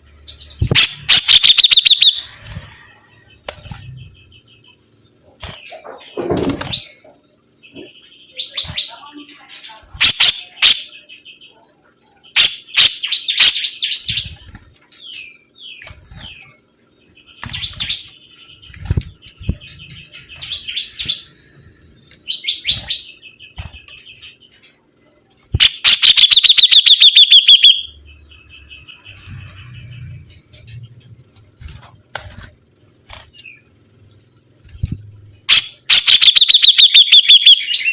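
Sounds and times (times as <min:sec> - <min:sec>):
songbird chattering trills: 0:00.3 - 0:02.4, 0:03.0 - 0:32.1, 0:33.3 - 0:37.9.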